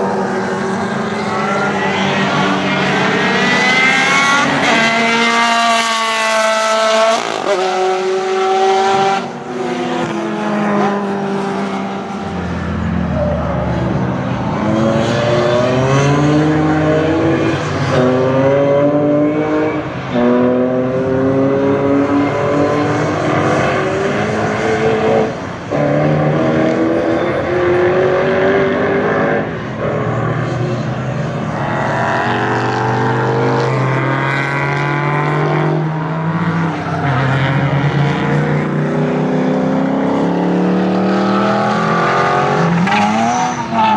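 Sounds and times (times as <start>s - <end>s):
racing car engines at full throttle: 0.0s - 43.9s.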